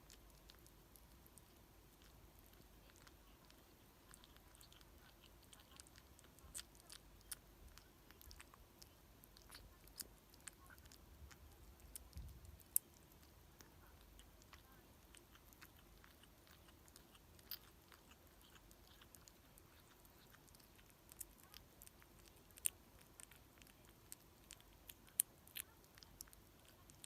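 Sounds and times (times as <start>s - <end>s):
kitten chewing food: 0.0s - 27.0s.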